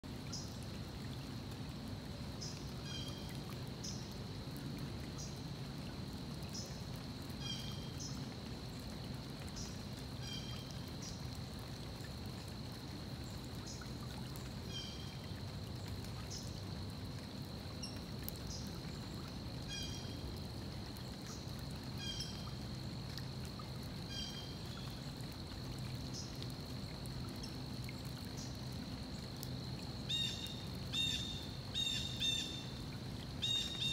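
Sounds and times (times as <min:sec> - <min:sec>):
stream water running: 0:00.0 - 0:33.9.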